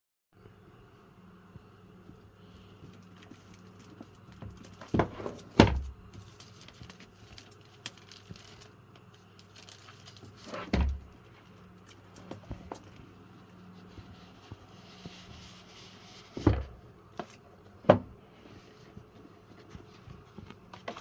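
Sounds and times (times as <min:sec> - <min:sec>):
faint steady hum: 0:00.4 - 0:21.0.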